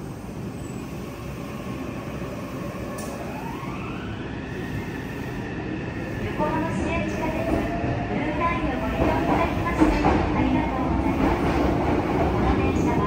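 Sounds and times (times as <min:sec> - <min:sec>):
train inverter drive whine: 0:00.0 - 0:11.4
train wheels rumbling on rails: 0:00.0 - 0:13.0.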